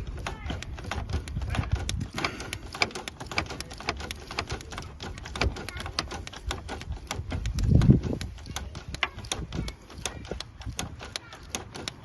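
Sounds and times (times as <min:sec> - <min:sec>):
hand tools clicking and tapping: 0:00.0 - 0:12.0.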